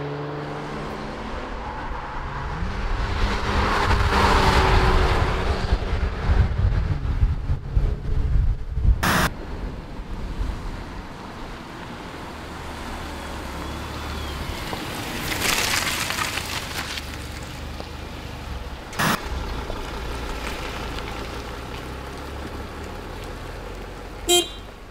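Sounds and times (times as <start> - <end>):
car engine hum: 0.0 - 24.9.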